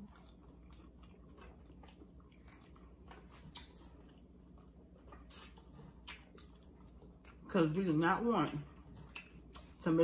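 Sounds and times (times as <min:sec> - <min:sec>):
faint chewing and biting: 0:00.0 - 0:10.0.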